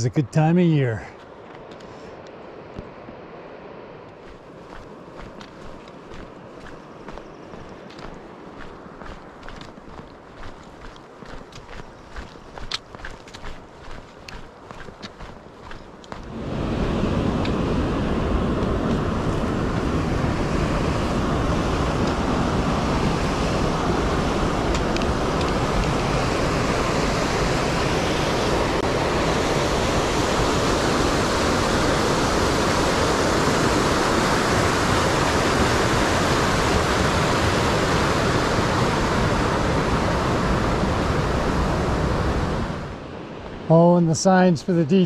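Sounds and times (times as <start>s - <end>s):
river water rushing: 4.3s - 43.7s.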